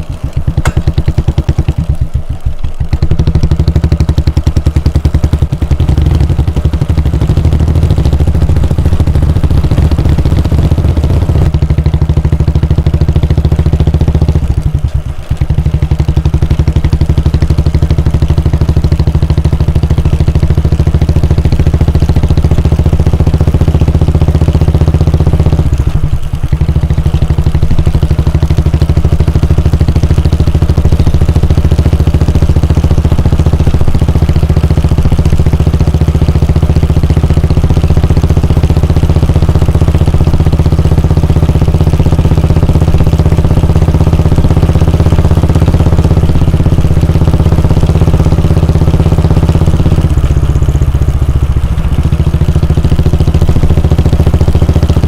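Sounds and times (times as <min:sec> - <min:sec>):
motorcycle engine thumping: 0:00.0 - 0:55.0.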